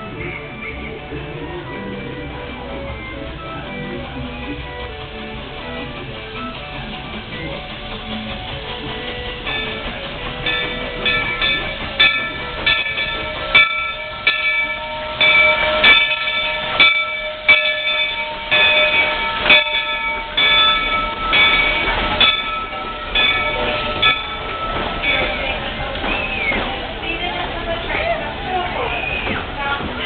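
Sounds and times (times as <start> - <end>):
locomotive bell ringing: 0.0 - 29.9
steam locomotive rumble: 0.0 - 30.0.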